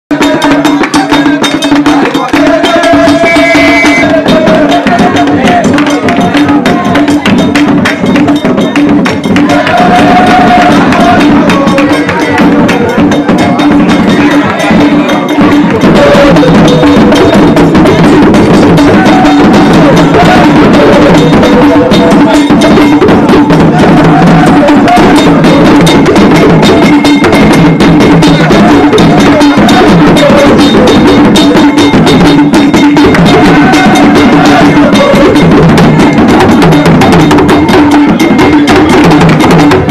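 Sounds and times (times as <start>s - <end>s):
drums in fast rhythm: 0.1s - 39.9s
struck bell: 0.1s - 39.9s.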